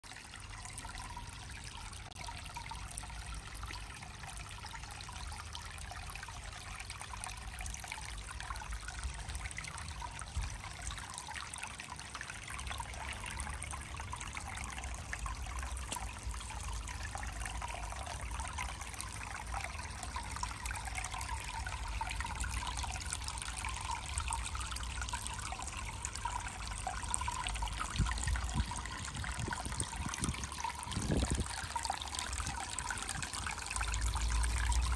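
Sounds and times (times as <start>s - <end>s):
water trickling into pond: 0.0s - 34.9s.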